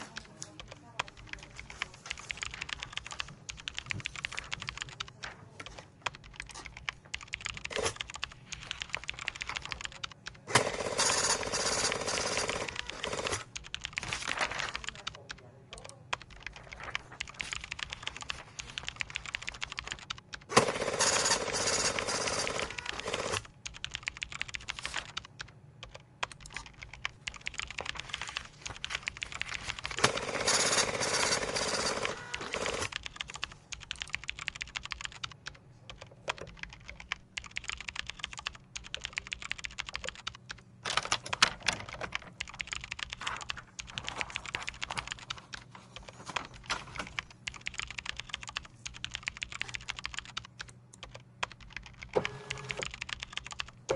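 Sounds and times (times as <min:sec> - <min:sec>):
typing on keyboard: 0:00.0 - 0:53.9.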